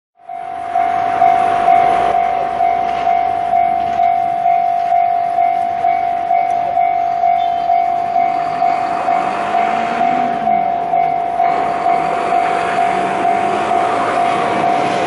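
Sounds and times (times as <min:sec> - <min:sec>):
diesel locomotive engine running: 0:00.2 - 0:15.0
level crossing bell ringing: 0:00.2 - 0:15.0.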